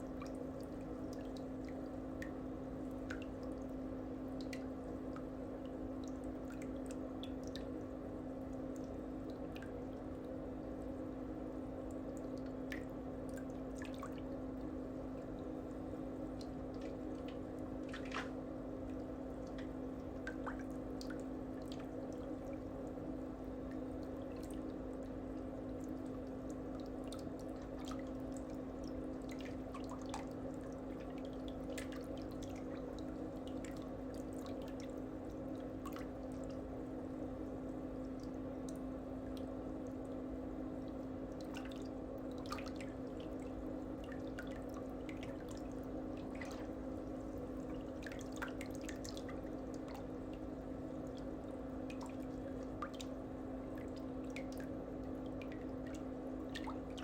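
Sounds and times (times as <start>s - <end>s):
small drips and ticks: 0.0s - 57.0s.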